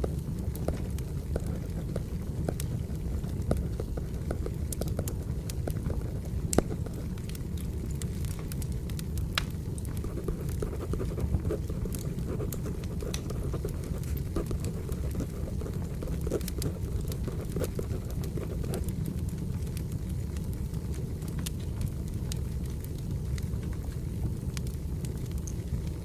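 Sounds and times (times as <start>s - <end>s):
low rumble of flames: 0.0s - 26.0s
sharp snaps of fire: 0.0s - 26.0s
wood fire crackling: 0.0s - 26.0s.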